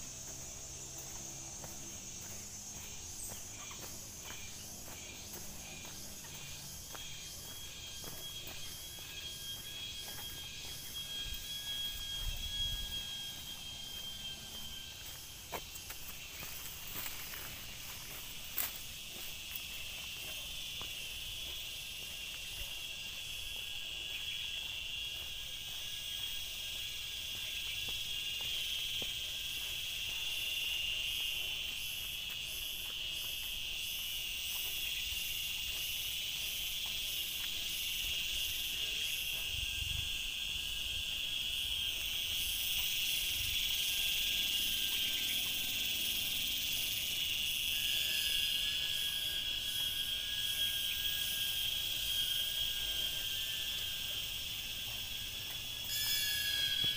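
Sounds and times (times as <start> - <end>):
high-pitched insect buzz: 0.0 - 56.9
pulsing insect rasp: 0.0 - 56.9.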